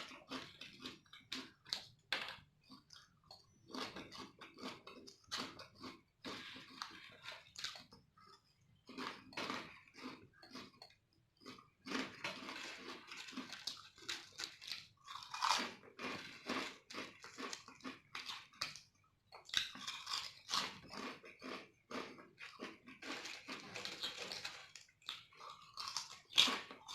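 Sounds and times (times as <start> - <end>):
potato chips crunching: 0.0 - 10.8, 11.4 - 26.9.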